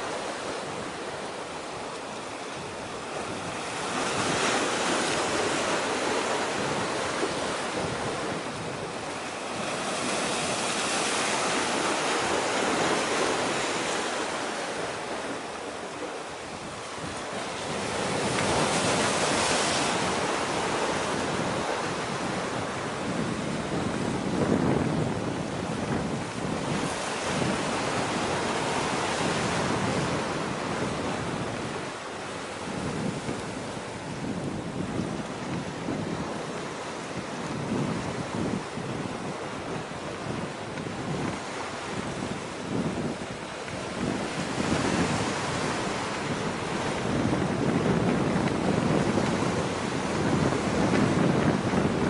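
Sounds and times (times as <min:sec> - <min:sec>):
sea waves washing ashore: 0:00.0 - 0:52.0
wind buffeting microphone: 0:00.0 - 0:52.0.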